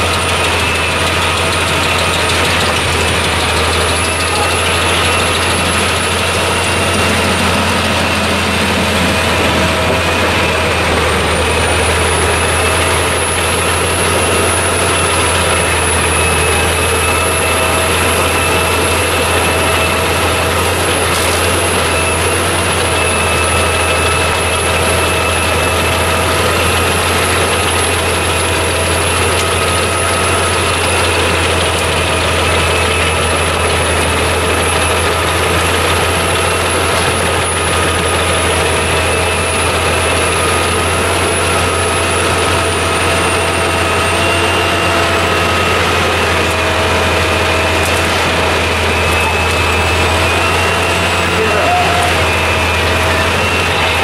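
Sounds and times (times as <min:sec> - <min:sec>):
wood chipper running: 0:00.0 - 0:54.0.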